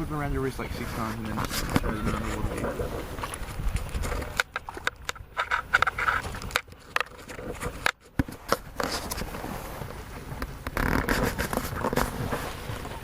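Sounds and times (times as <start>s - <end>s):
camera handling scrapes and clicks: 0.8s - 9.4s, 10.6s - 12.5s.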